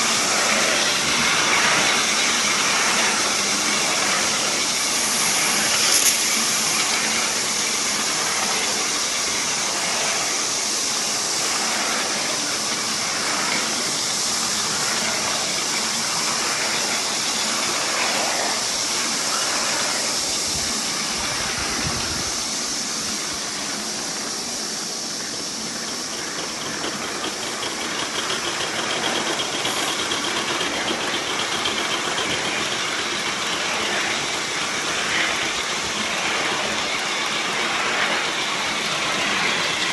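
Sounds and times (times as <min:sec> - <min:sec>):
model steam locomotive running: 0:00.0 - 0:39.9.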